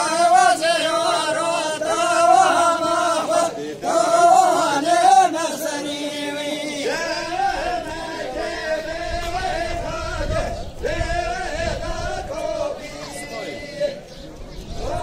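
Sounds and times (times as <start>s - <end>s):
men singing folk song: 0.0s - 15.0s.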